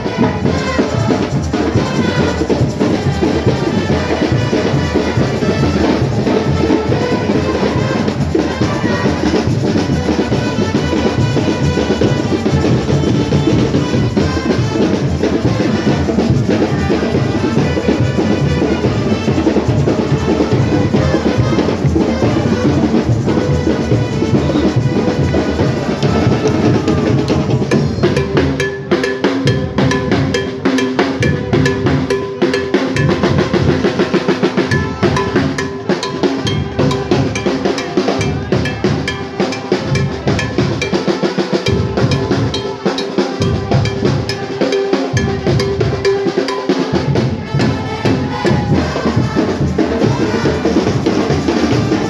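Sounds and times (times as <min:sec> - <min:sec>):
marching snare and bass drums: 0:00.0 - 0:52.0
saxophones and horns playing: 0:00.0 - 0:52.0.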